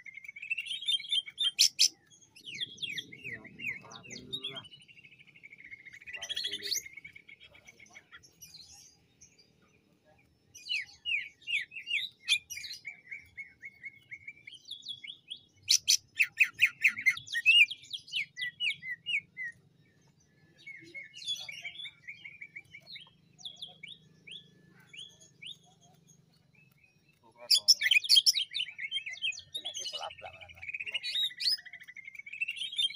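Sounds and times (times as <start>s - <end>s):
bird chirping song: 0.0s - 32.9s.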